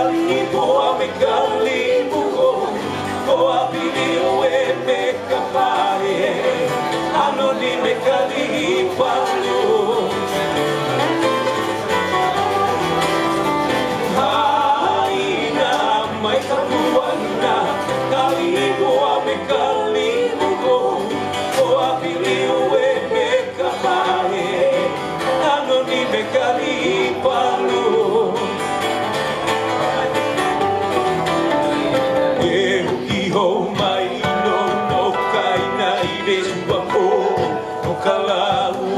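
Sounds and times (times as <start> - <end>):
man singing: 0.0 - 11.2, 11.8 - 28.8, 32.2 - 38.9
acoustic guitar: 0.0 - 38.9
bass guitar: 0.0 - 38.9
second guitar: 0.0 - 38.9.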